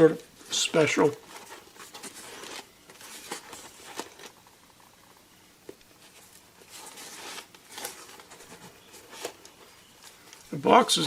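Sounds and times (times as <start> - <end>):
packaging rustling: 0.6 - 5.2, 5.9 - 10.6.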